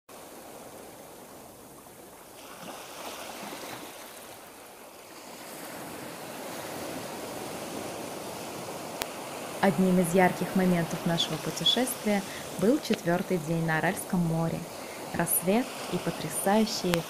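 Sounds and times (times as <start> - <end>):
small waves on shore: 0.1 - 17.0
wind: 0.1 - 17.0.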